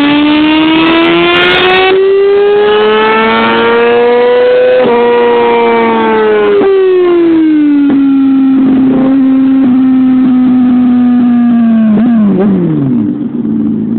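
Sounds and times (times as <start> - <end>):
motorcycle engine revving hard: 0.0 - 13.9.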